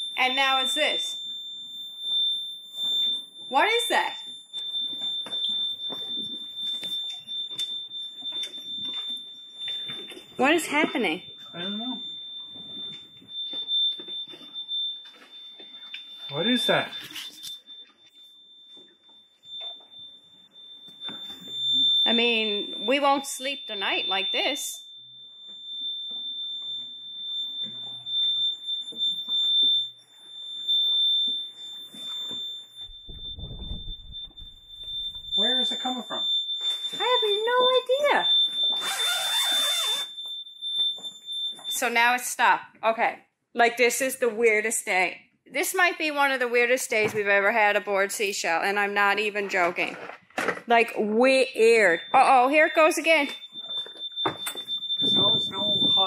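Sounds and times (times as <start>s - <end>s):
high-pitched electronic alarm tone: 0.0s - 43.0s, 43.6s - 56.0s.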